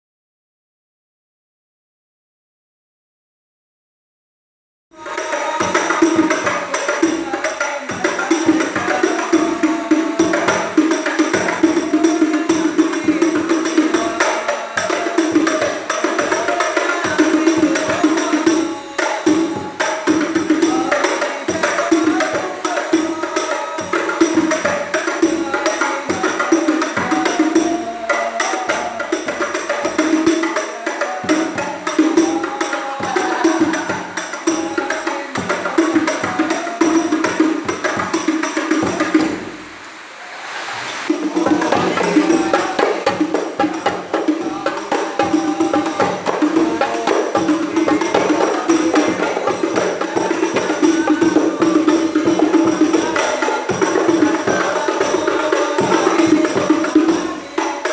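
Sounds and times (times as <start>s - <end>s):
frame drums playing: 5.0s - 39.7s, 41.1s - 57.9s.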